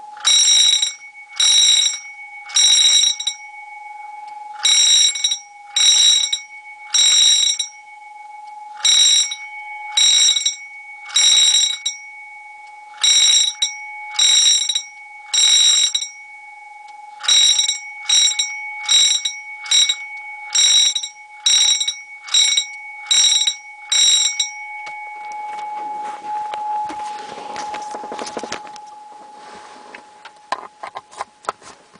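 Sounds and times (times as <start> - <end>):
electric alarm bells ringing: 0.0 - 31.0
faint steady whine: 0.0 - 31.9.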